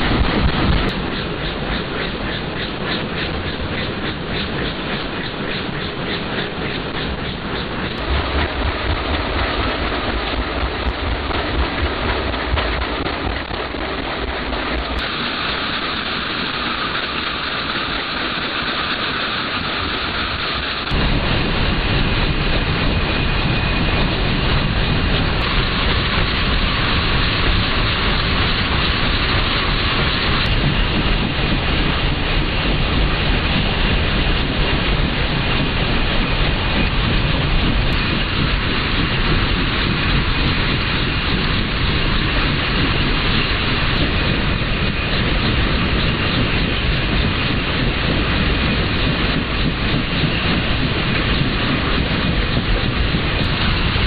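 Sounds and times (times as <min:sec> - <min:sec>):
aircraft engines and rotors roaring: 0:00.0 - 0:54.0.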